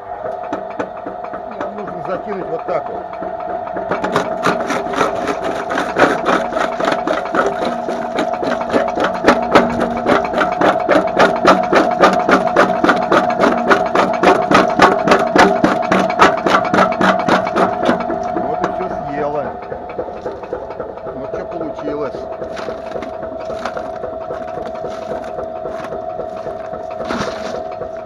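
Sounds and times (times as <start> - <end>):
crusher motor humming: 0.0 - 28.0
crusher jaws knocking: 0.2 - 28.0.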